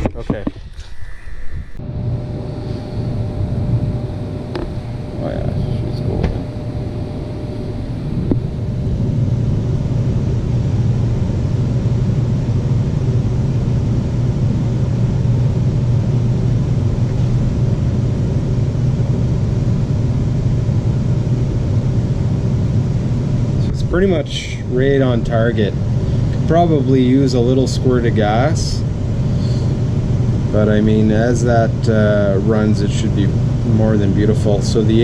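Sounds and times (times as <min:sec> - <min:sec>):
compressor humming: 0:00.0 - 0:35.0.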